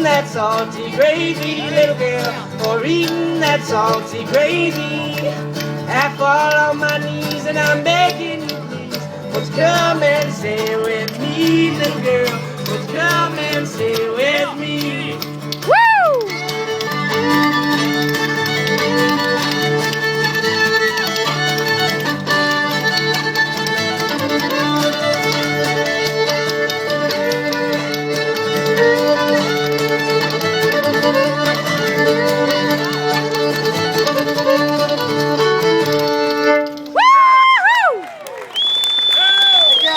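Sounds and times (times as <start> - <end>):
strummed acoustic guitar: 0.0 - 37.0
fiddle tune: 0.0 - 37.4.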